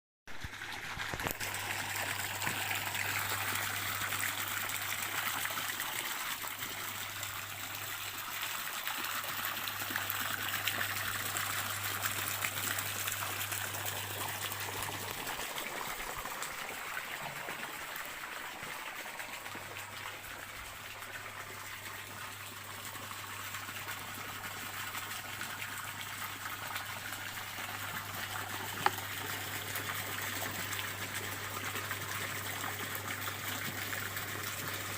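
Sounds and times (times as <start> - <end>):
stream water trickling: 0.3 - 34.9.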